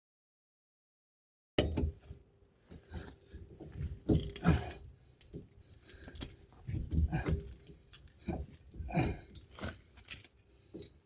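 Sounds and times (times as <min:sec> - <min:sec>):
faint steady hum: 0:01.6 - 0:11.0
tools clunking and scraping: 0:01.6 - 0:11.0.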